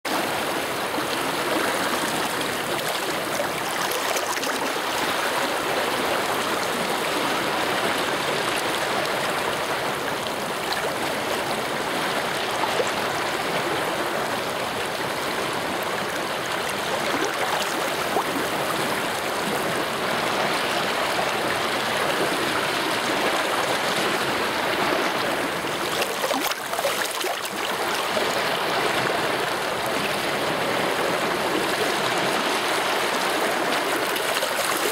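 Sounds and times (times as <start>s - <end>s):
mountain stream rushing over stones: 0.1s - 34.9s.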